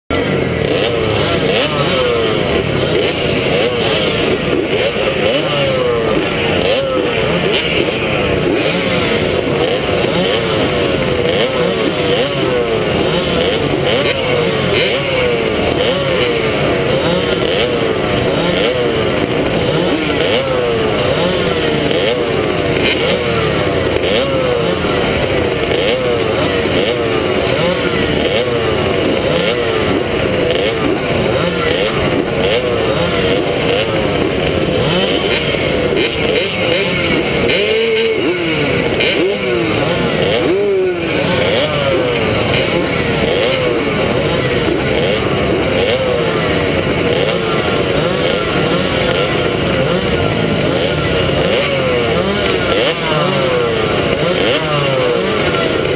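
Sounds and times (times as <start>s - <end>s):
motocross bikes revving: 0.0s - 55.9s.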